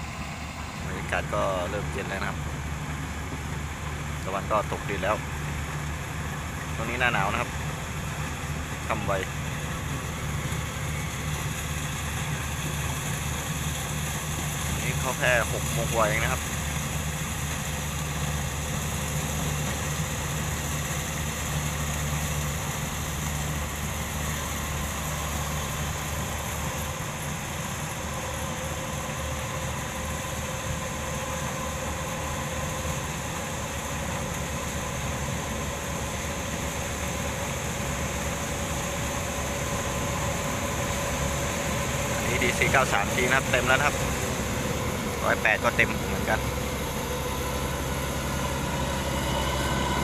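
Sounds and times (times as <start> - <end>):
faint steady whine: 0.0 - 50.0
harvester engine drone: 0.0 - 50.0.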